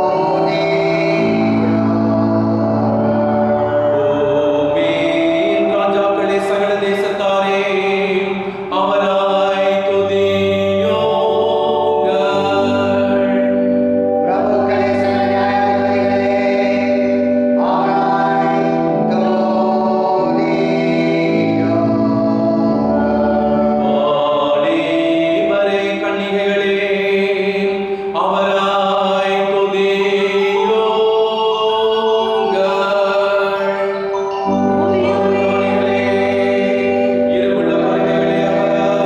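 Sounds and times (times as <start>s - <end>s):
hymn singing: 0.0s - 39.0s
sustained chords: 0.0s - 39.0s.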